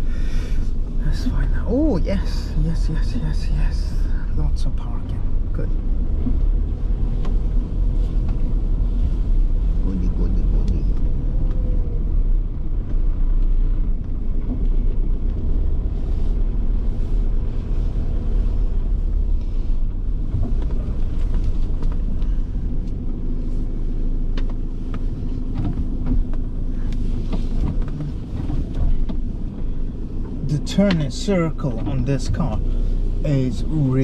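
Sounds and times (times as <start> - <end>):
vehicle engine running low speed: 0.0 - 34.0.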